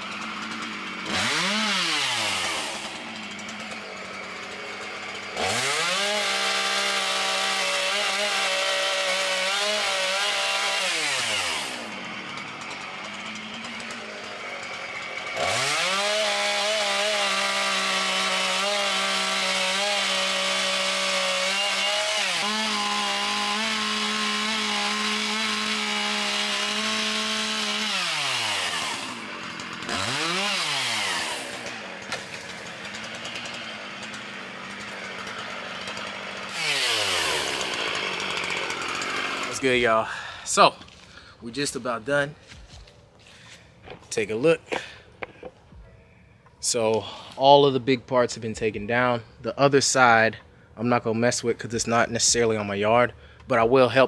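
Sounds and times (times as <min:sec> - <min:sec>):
chainsaw revving and cutting: 0:00.0 - 0:45.4.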